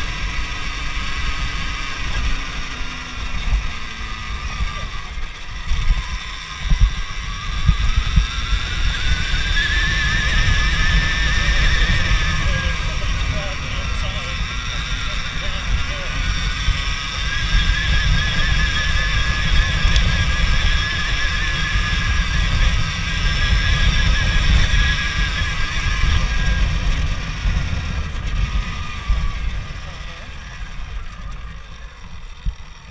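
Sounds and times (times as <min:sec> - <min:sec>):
electric motorbike motor whining: 0:00.0 - 0:32.9
low rumble: 0:00.0 - 0:32.9.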